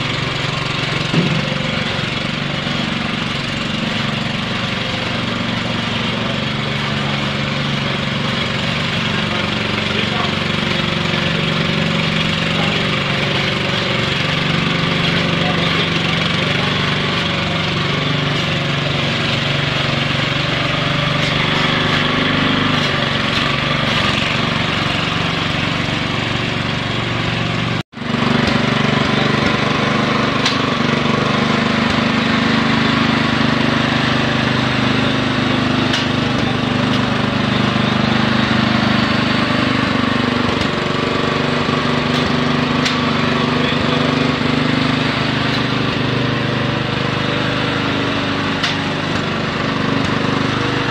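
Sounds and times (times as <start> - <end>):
machinery humming: 0.0 - 50.9.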